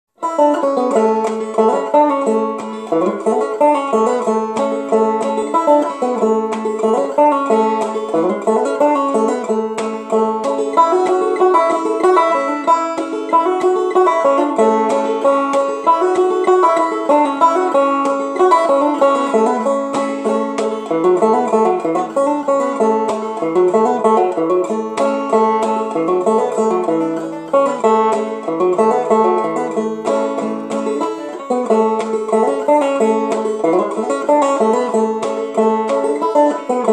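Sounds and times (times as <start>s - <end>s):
banjo playing old-time tune: 0.1s - 36.9s.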